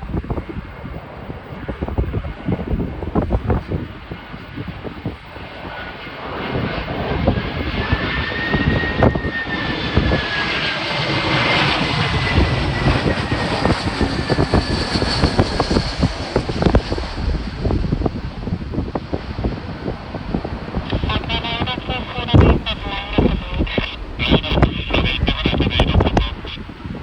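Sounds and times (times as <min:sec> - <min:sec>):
high jet engine whine: 0:00.0 - 0:27.0
jet airliner engine rush: 0:00.0 - 0:27.0
wind buffeting microphone: 0:00.0 - 0:27.0.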